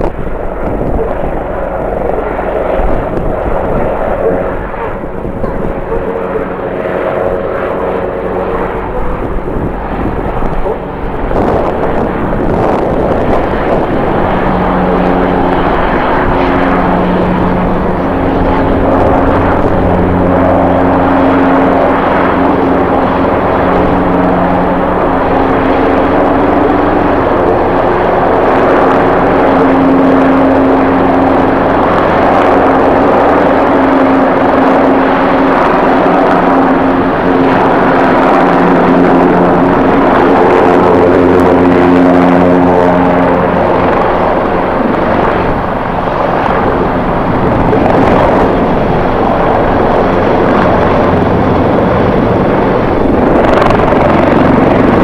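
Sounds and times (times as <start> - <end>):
jet engines humming: 0.0 - 55.0
wind noise on microphone: 0.0 - 55.0.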